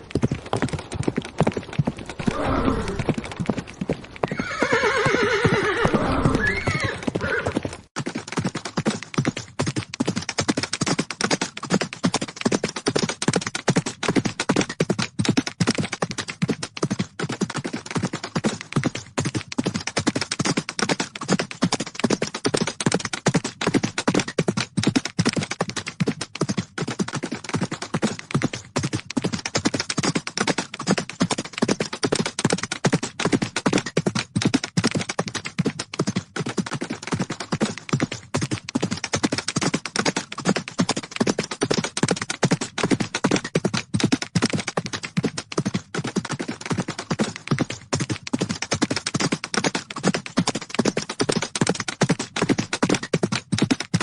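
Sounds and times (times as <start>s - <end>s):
horses galloping: 0.0s - 54.0s.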